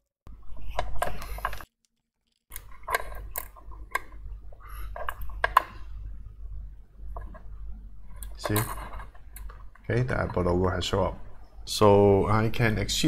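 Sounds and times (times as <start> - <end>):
low steady hum: 2.5 - 13.0.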